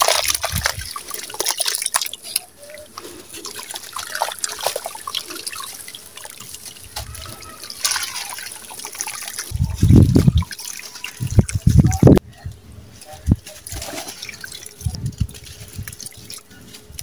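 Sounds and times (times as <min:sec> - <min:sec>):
water trickling and dripping: 0:00.0 - 0:12.2, 0:13.0 - 0:17.0.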